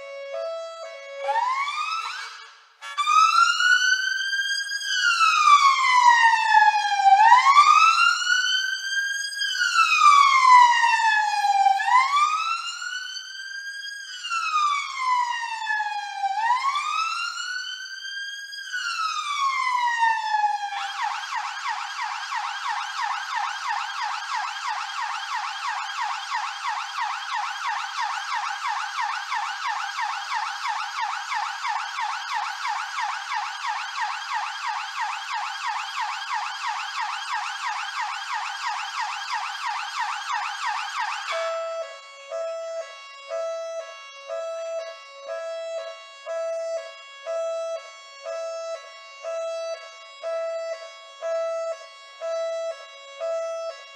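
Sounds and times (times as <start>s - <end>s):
police siren wailing and yelping: 0.0s - 51.7s.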